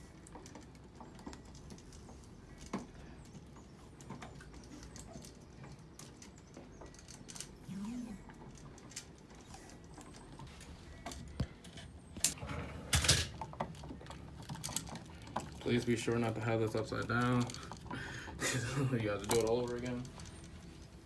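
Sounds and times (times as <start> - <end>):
small clicks and rustles: 0.0 - 21.0.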